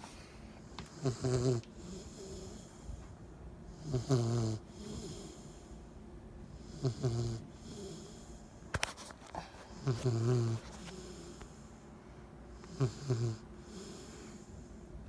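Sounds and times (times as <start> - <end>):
puppy snoring: 0.0 - 3.1, 3.7 - 5.8, 6.5 - 8.7, 9.3 - 11.8, 12.6 - 14.8.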